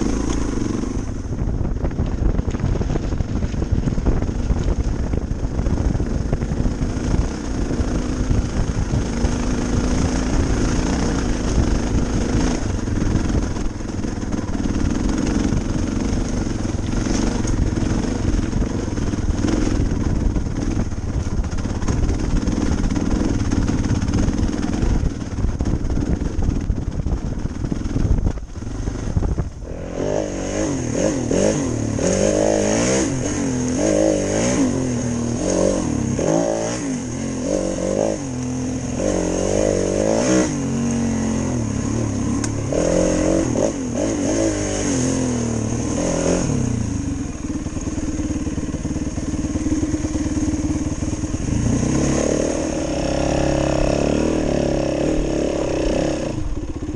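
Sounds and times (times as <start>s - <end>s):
dirt bike engine revving: 0.0s - 26.6s, 27.4s - 56.9s
motorcycle engine rumbling: 0.0s - 56.9s.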